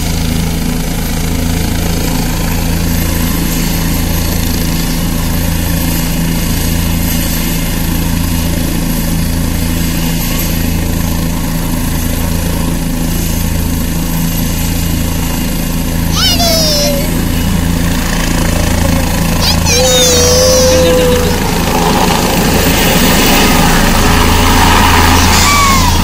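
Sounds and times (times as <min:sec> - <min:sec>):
helicopter engine and rotor idling: 0:00.0 - 0:26.0.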